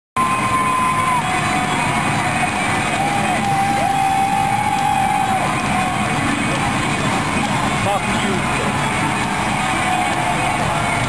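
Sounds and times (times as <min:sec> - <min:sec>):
music with long sliding notes: 0:00.2 - 0:11.0
stadium crowd cheering: 0:00.2 - 0:11.0.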